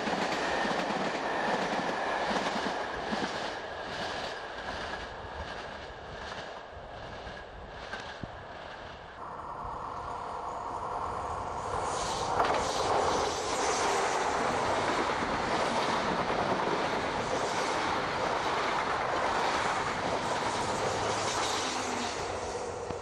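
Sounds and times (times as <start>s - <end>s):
train passing at speed: 0.0s - 23.0s
train wheels on rails: 0.0s - 23.0s.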